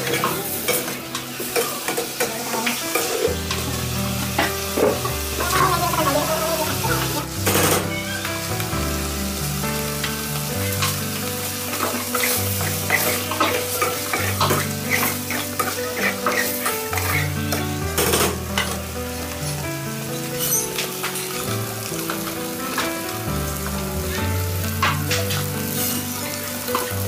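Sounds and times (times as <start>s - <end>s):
background music: 0.0s - 27.0s
pasta sizzling in a pot: 0.0s - 27.0s.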